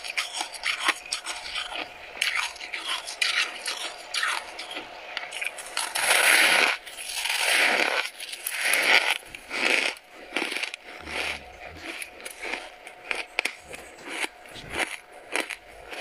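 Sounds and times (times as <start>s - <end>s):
chewing crunchy frost: 0.0s - 16.0s.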